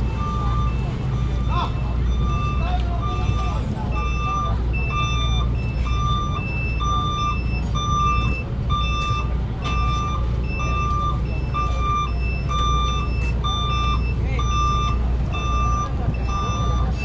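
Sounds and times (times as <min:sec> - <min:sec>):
truck engine rumble: 0:00.0 - 0:17.0
two-tone reversing alarm beeping: 0:00.0 - 0:17.0.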